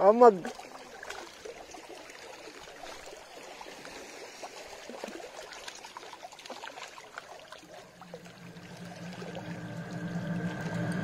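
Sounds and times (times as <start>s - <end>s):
water lapping and trickling: 0.0s - 11.0s
small splashes and bubbling clicks: 0.2s - 11.0s.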